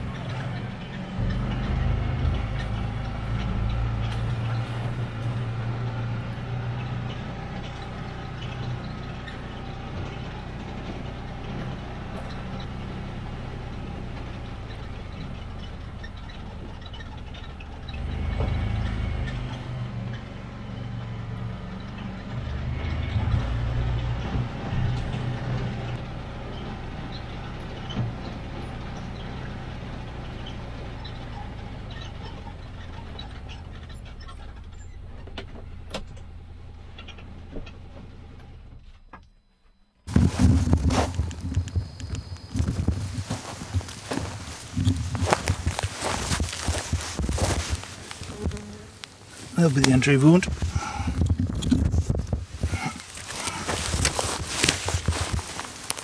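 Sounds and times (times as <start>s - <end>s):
utility vehicle engine running: 0.0s - 56.0s.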